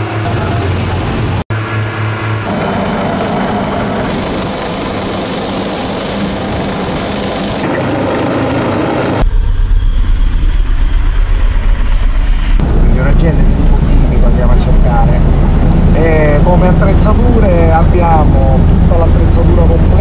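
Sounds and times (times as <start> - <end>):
helicopter rotors beating: 0.0 - 20.0
rushing engine and wind noise: 0.0 - 20.0.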